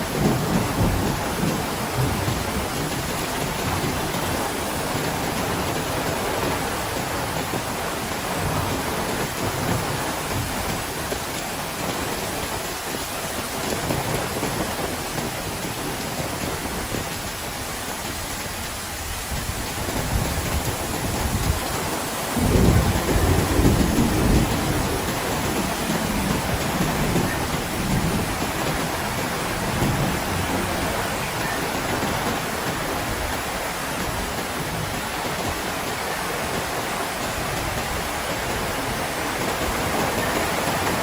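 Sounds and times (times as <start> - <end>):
heavy rain falling: 0.0 - 41.0
wind: 0.0 - 41.0.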